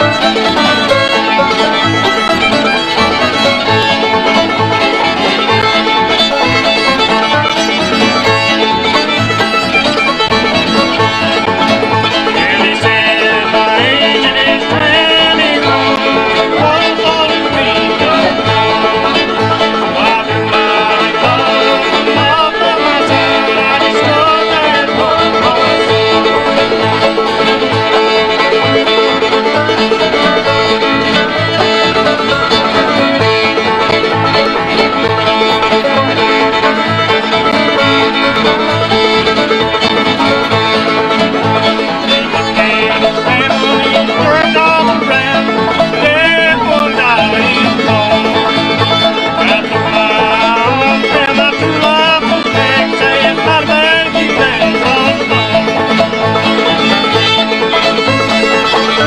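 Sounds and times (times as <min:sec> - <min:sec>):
banjo: 0:00.0 - 0:59.0
fiddle: 0:00.0 - 0:59.0
strummed guitar: 0:00.0 - 0:59.0
upright bass: 0:00.0 - 0:59.0.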